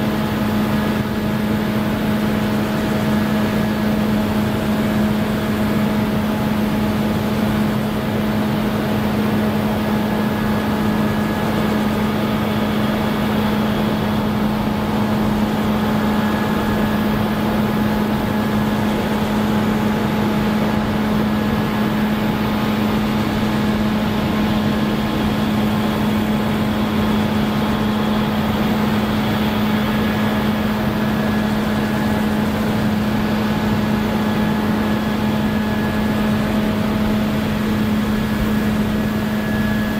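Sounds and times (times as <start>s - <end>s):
combine harvester running: 0.0s - 39.9s
high steady machinery whines: 0.0s - 39.9s.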